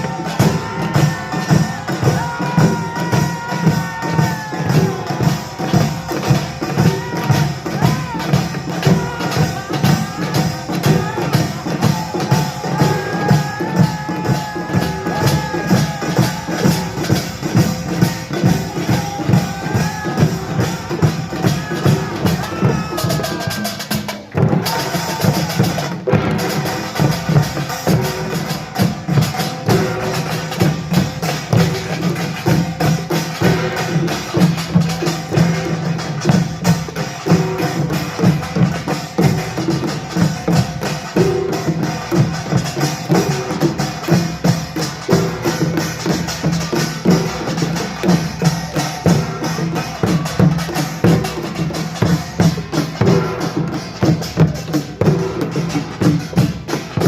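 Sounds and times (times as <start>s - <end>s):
gongs and drums playing fast rhythm: 0.0s - 57.0s.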